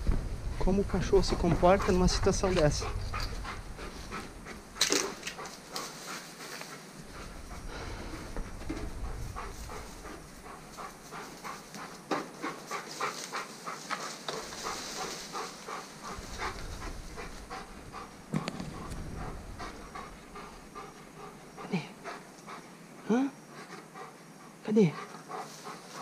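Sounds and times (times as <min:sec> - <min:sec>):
dog panting rapidly: 0:00.8 - 0:26.0.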